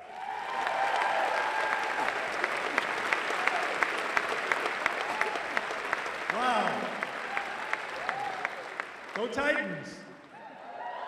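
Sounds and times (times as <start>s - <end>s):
audience applauding and cheering: 0.0s - 11.0s
sharp hand claps: 0.5s - 9.4s.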